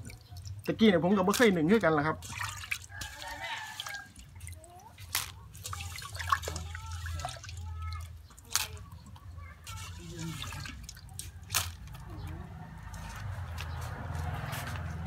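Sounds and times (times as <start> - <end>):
water dripping into pot: 0.0 - 13.7.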